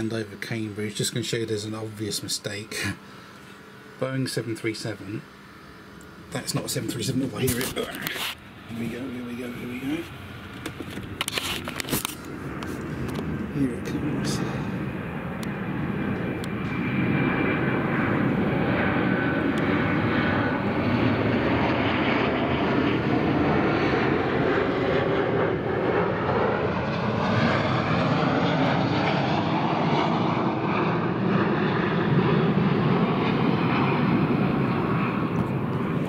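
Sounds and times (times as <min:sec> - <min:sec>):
engine whine: 0:00.0 - 0:36.0
rushing jet noise: 0:06.2 - 0:36.0.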